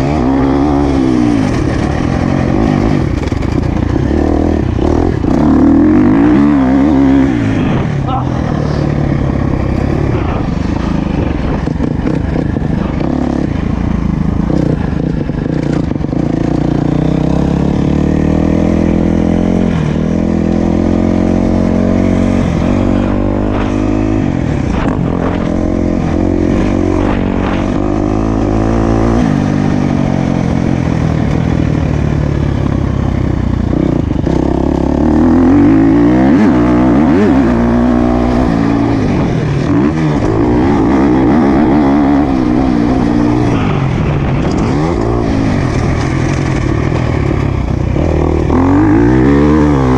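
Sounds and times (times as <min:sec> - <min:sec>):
motocross bike engine revving: 0:00.0 - 0:49.9.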